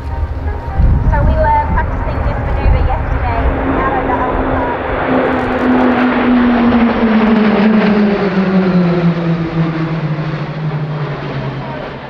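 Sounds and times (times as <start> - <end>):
turboprop planes passing overhead: 0.0 - 12.0.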